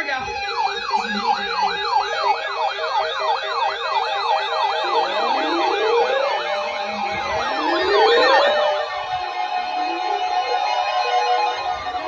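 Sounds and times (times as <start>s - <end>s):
fast yelp siren: 0.0s - 12.0s
slow rising siren: 0.0s - 12.0s.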